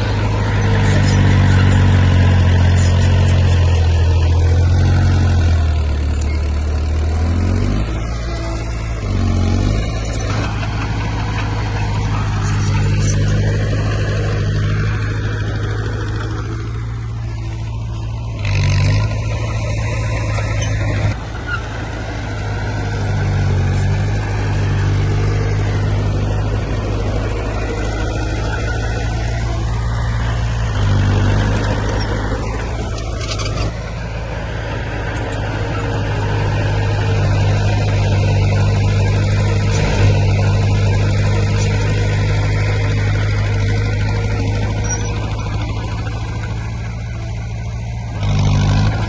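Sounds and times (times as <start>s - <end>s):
heavy diesel engines running: 0.0s - 49.0s.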